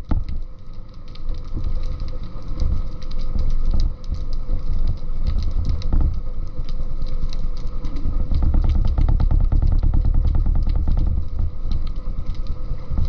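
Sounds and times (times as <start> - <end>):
low underwater rumble: 0.0 - 13.0
underwater clicks and ticking: 0.0 - 13.0.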